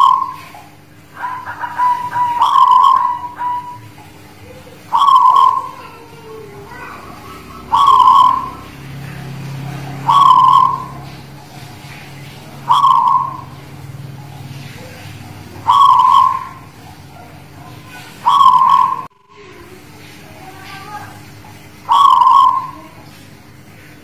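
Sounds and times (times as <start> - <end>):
dove cooing: 0.0 - 19.1, 21.8 - 23.2.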